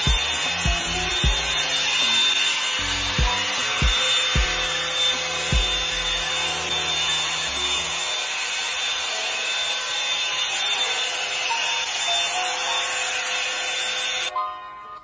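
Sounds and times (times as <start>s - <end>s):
hair dryer airflow hiss: 0.0s - 14.3s.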